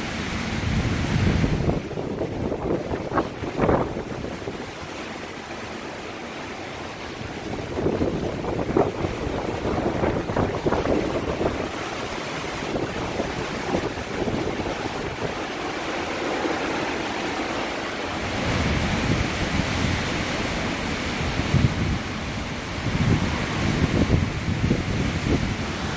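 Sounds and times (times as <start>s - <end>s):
wind buffeting microphone: 0.0s - 5.5s, 6.5s - 25.9s
strong wind gusting through trees: 0.0s - 25.9s.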